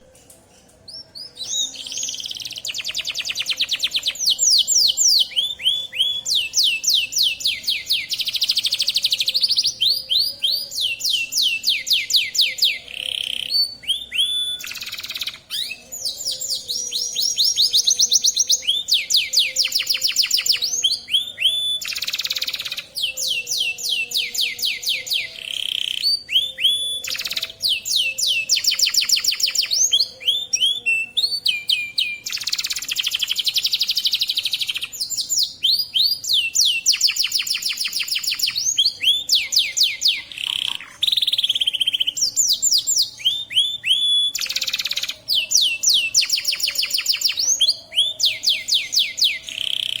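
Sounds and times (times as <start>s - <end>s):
canary singing trills: 0.0s - 50.0s.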